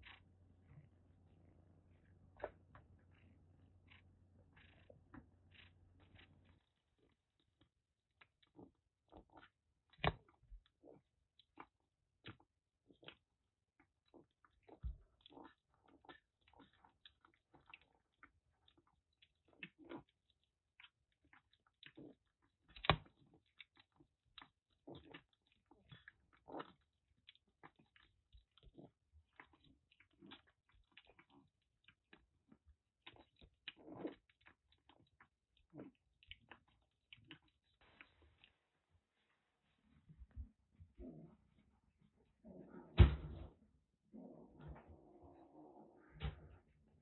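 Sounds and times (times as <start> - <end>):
kittens licking wetly: 0.0 - 41.7.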